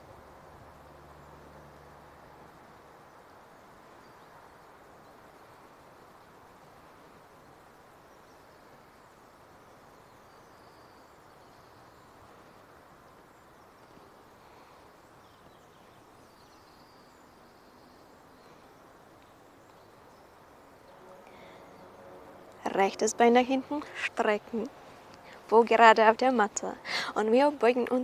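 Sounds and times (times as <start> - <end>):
steady low hiss: 0.0 - 28.0.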